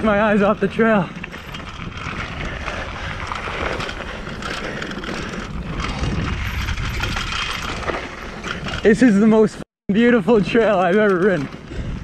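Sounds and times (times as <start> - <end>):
bike rattling: 0.0 - 12.0
bike tyres on dirt: 0.0 - 12.0.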